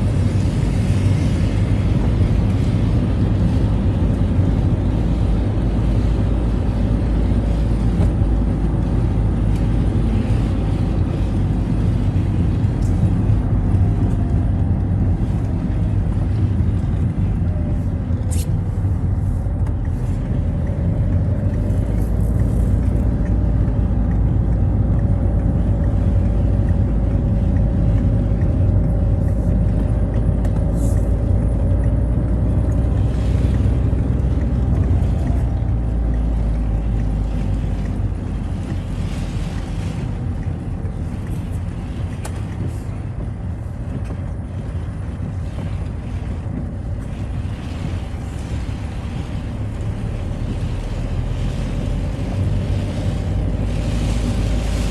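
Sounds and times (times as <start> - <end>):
car engine and tyre rumble: 0.0 - 54.9
faint engine whine: 0.0 - 54.9.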